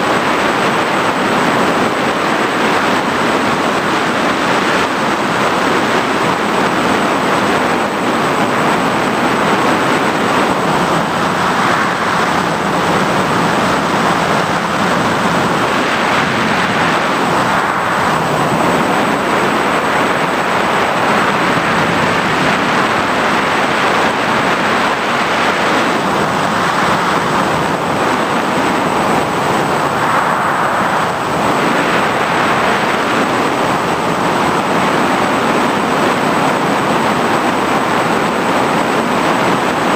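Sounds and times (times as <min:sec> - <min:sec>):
drone motors and propellers: 0:00.0 - 0:39.9
high-pitched whine: 0:00.0 - 0:39.9
rushing air: 0:00.0 - 0:39.9.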